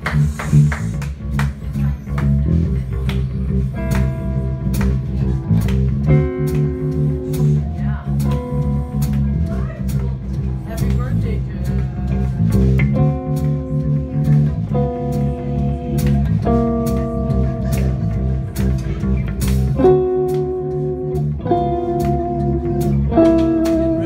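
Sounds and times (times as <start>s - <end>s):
bass guitar: 0.0s - 24.0s
electric guitar long notes: 2.2s - 24.0s.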